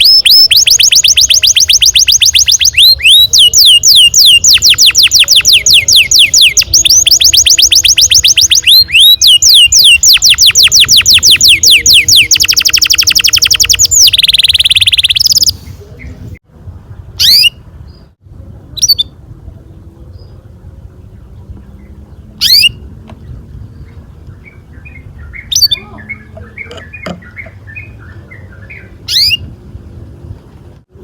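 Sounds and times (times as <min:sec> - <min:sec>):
canary trilling song: 0:00.0 - 0:16.2, 0:17.0 - 0:19.2, 0:21.1 - 0:29.6
canary chirps: 0:00.0 - 0:16.3, 0:17.0 - 0:18.2, 0:18.8 - 0:19.2, 0:21.1 - 0:29.6.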